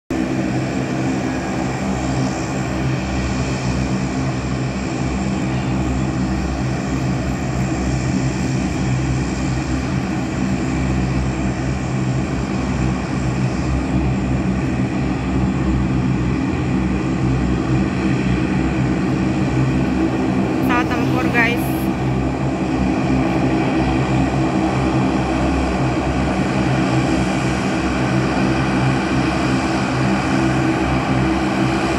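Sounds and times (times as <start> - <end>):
high turbine whine: 0.1 - 31.9
propeller drone: 0.1 - 31.9.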